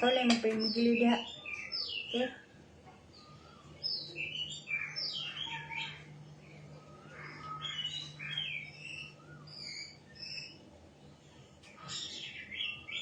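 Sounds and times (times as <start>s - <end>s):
bird singing whistled notes: 0.0s - 2.5s, 3.1s - 6.0s, 6.6s - 10.6s, 11.8s - 13.0s.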